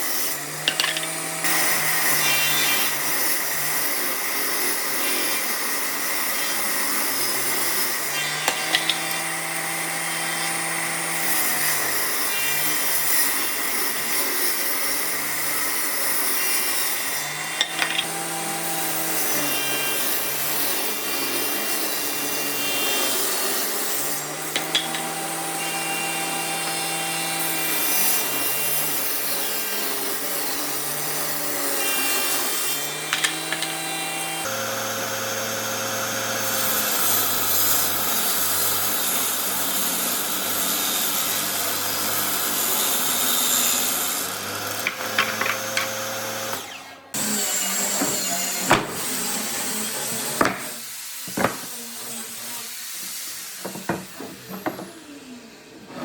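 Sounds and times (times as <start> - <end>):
power tool cutting wood: 0.0 - 56.0.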